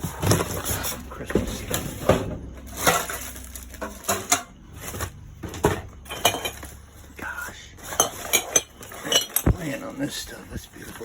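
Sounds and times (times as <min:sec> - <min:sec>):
household items clattering and knocking: 0:00.0 - 0:07.1, 0:07.8 - 0:11.0.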